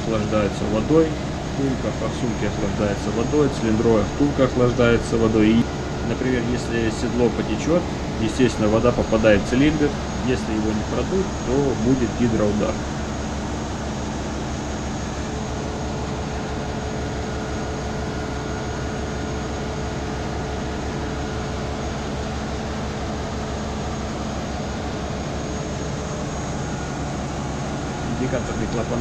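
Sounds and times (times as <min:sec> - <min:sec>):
faint steady hums: 0:00.0 - 0:29.0.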